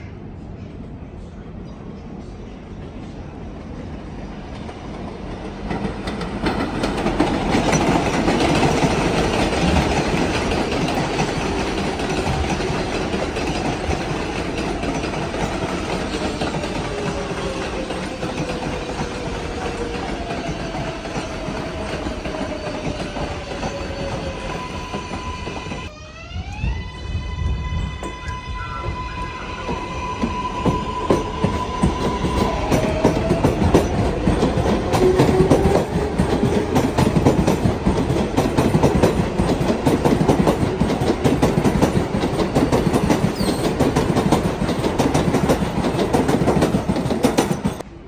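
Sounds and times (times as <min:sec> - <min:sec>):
train whine: 0:00.0 - 0:48.0
train wheels clattering on rails: 0:04.5 - 0:25.9, 0:29.6 - 0:47.9.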